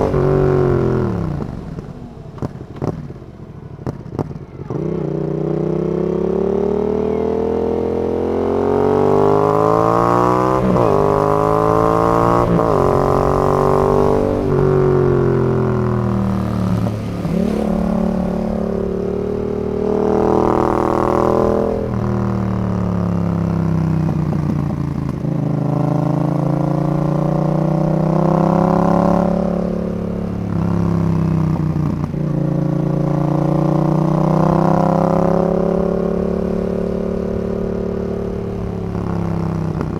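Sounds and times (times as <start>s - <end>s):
motorcycle exhaust revving through gears: 0.0s - 39.9s.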